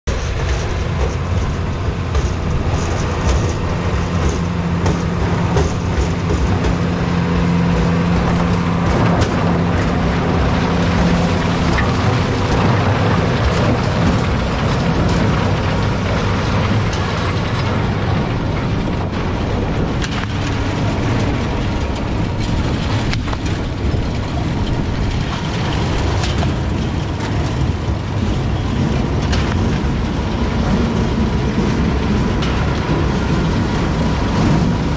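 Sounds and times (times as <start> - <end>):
harvester machinery din: 0.1 - 34.9.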